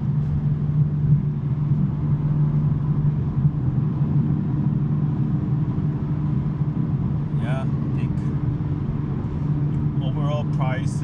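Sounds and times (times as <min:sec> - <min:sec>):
car engine steady drone: 0:00.0 - 0:11.0.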